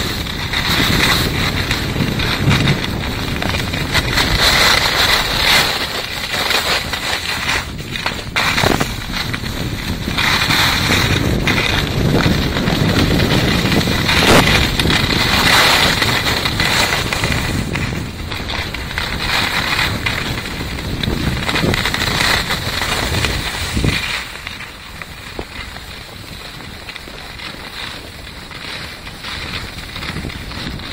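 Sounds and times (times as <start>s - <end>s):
skis scraping on snow: 0.0s - 30.9s
wind buffeting microphone: 0.0s - 30.9s.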